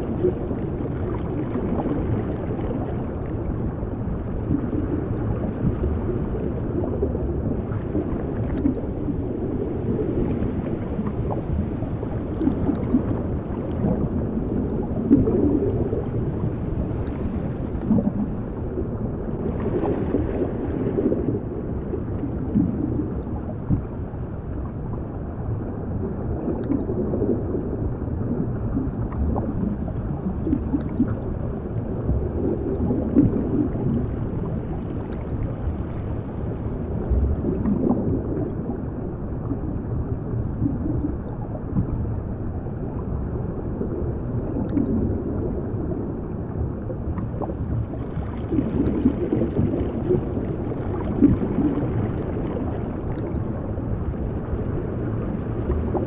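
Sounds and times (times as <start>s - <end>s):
muffled underwater rumble: 0.0s - 56.0s
water bubbling and gurgling: 0.0s - 56.0s.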